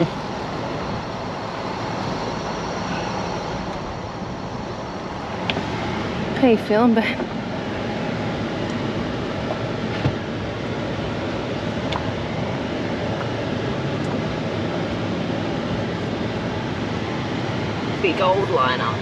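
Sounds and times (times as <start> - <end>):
truck running: 0.0 - 19.0.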